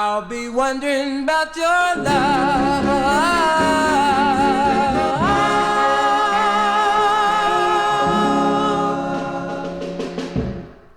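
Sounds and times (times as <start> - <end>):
vocal group singing held chord: 2.0 - 10.8.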